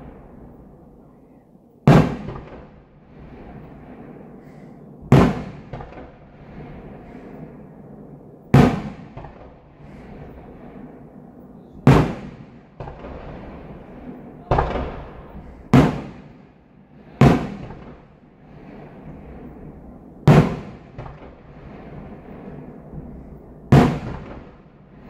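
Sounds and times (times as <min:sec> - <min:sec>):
fireworks booming: 0:00.0 - 0:25.0
rumble after booms: 0:00.0 - 0:25.0.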